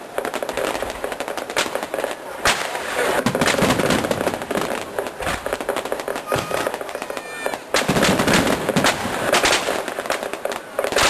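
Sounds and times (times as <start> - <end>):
crowd voices: 0.0 - 11.0
fireworks bangs: 0.0 - 11.0
fireworks crackling: 0.0 - 11.0.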